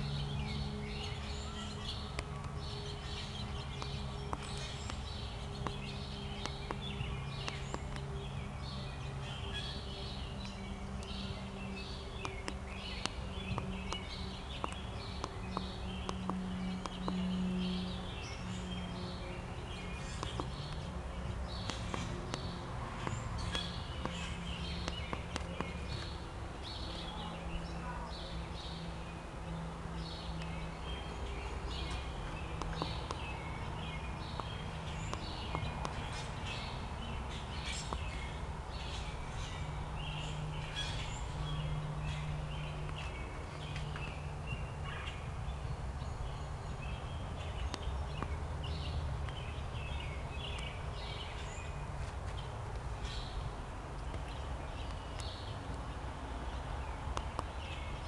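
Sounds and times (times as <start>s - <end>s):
low steady hum: 0.0s - 58.0s
small birds chirping: 0.0s - 58.0s.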